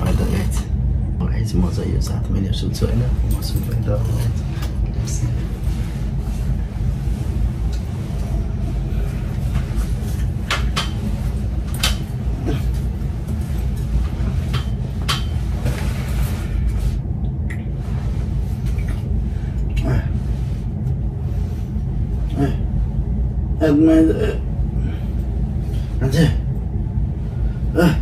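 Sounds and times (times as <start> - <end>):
steady low rumble: 0.0 - 28.0
clothes and bedding rustling: 1.4 - 28.0.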